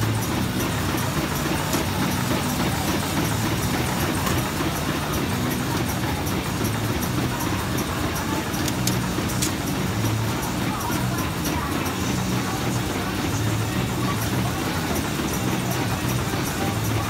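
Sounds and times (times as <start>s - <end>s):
low machine hum: 0.0s - 17.0s
paper folding machine din: 0.0s - 17.0s.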